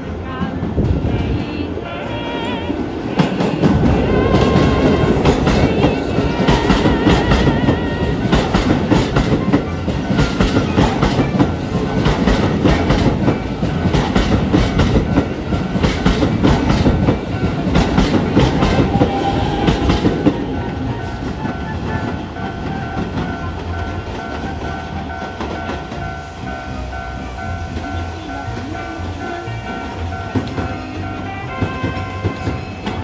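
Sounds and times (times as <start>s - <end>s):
heavy train rumble: 0.0s - 33.0s
level crossing warning bells: 2.3s - 33.0s
train wheels clattering over rails: 2.7s - 33.0s.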